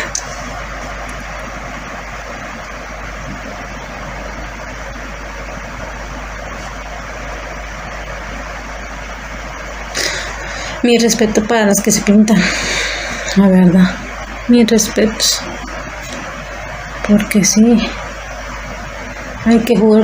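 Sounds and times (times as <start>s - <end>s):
low hum: 0.0s - 20.0s
steady rushing noise: 0.0s - 20.0s.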